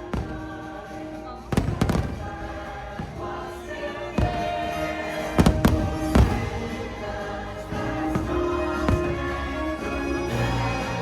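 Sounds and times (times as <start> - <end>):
firework bangs: 0.0 - 10.3
soundtrack music playing: 0.0 - 11.0.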